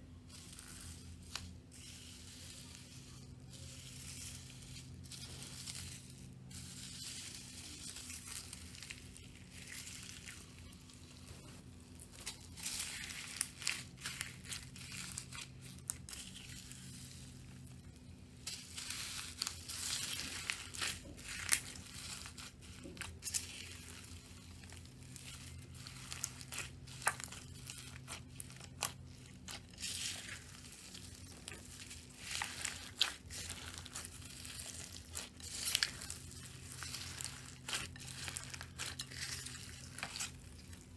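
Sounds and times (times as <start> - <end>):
low electrical hum: 0.0 - 40.9
slime crackling and popping: 0.3 - 40.9.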